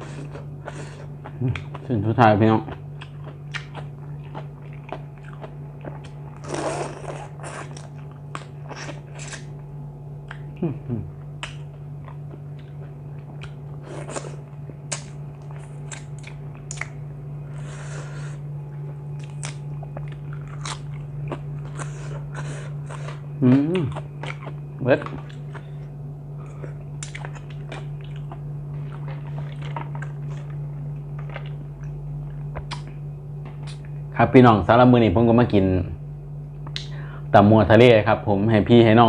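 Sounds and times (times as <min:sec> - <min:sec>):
person chewing crunchy food: 0:00.0 - 0:02.0, 0:02.6 - 0:09.6, 0:10.2 - 0:34.0
steady low hum: 0:00.0 - 0:39.0.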